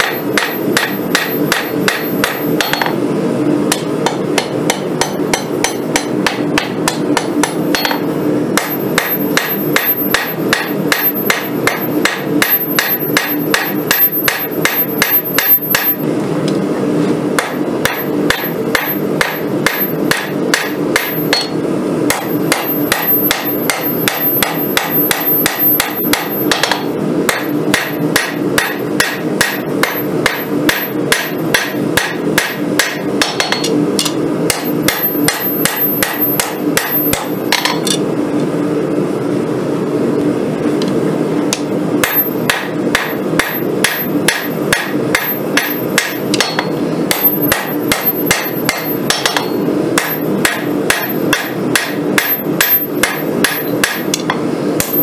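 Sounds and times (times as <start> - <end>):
hammer striking steel on anvil: 0.0 - 3.0, 3.7 - 16.0, 17.4 - 38.0, 41.5 - 55.0
steady background hum: 0.0 - 55.0.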